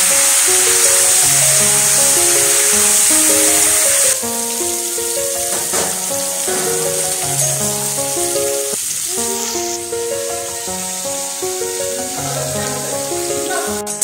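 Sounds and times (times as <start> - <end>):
instrumental background music: 0.0 - 14.0
mango slices sizzling in hot oil: 0.0 - 14.0.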